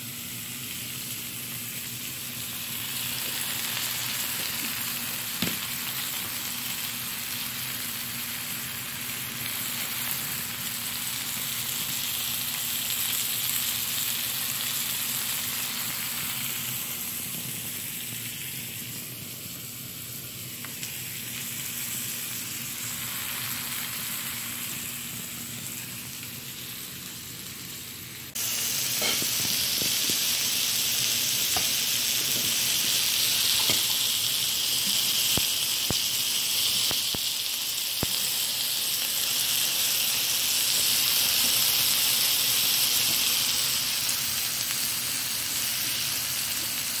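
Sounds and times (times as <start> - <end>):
meat sizzling on a griddle: 0.0 - 47.0.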